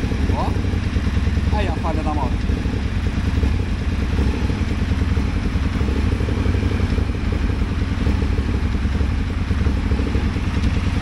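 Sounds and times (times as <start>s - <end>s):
motorcycle engine idling with misfire: 0.0s - 11.0s.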